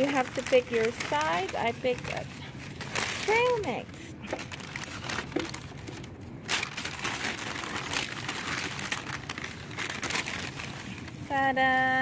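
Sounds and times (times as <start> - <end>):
paper bag rustling: 0.0 - 12.0.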